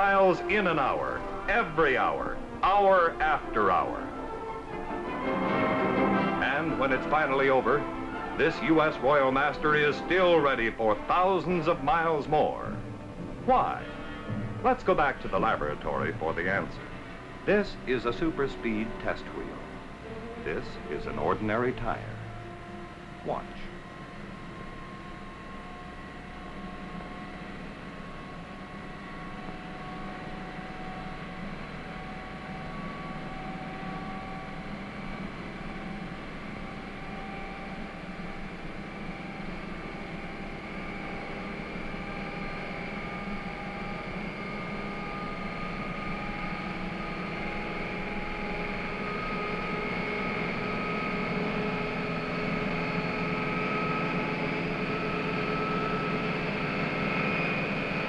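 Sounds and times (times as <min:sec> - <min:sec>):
tire test wheel whine: 0:00.0 - 0:58.0.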